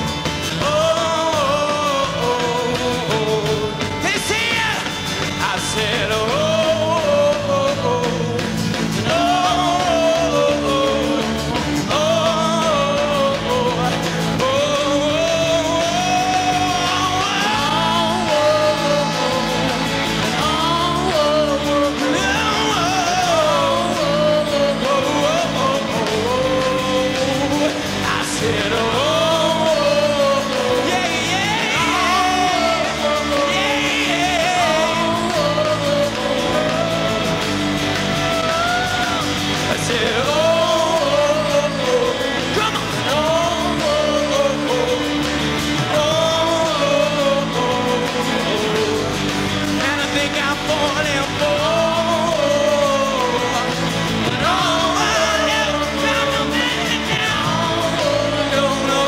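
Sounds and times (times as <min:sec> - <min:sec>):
guitar chords: 0:00.0 - 0:59.0
person singing: 0:00.0 - 0:59.0.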